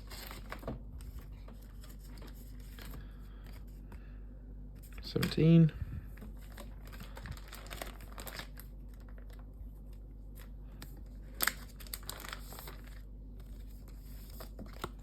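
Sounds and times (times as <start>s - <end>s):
plastic packaging crinkling: 0.0s - 3.6s, 6.2s - 15.0s.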